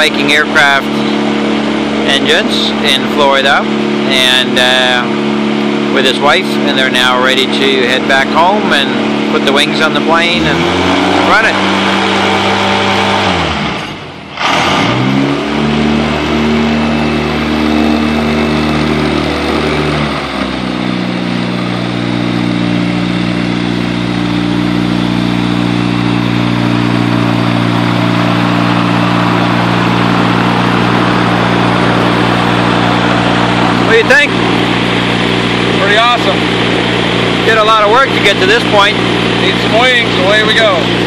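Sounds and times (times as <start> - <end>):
aircraft engine drone with propeller: 0.0 - 41.0.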